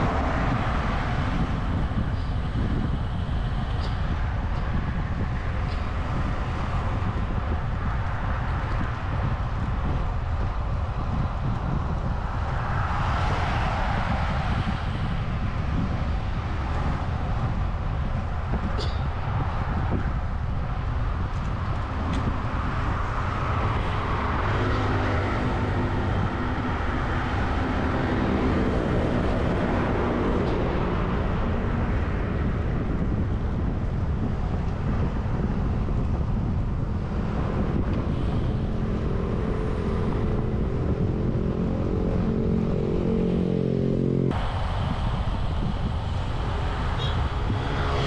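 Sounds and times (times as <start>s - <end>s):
motor traffic: 0.0s - 48.0s
vehicle engine hum: 0.0s - 48.0s
wind on microphone: 0.0s - 48.0s.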